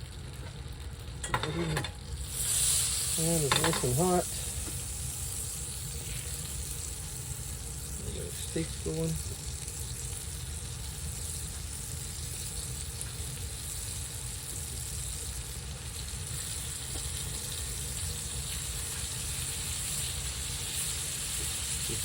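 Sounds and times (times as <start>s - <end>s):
steaks sizzling in a frying pan: 0.0s - 22.0s.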